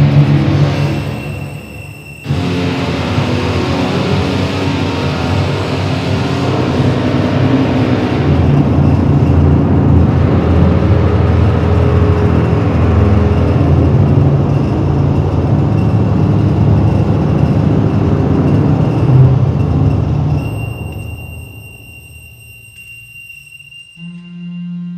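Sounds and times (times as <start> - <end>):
electronic noise drone: 0.0 - 24.9.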